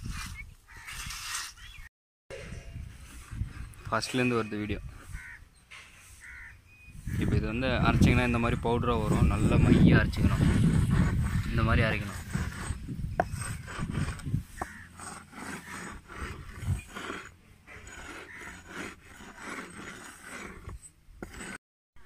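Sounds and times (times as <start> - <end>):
stone grinding charcoal on rock: 0.0 - 1.9, 2.8 - 6.5, 7.1 - 21.6.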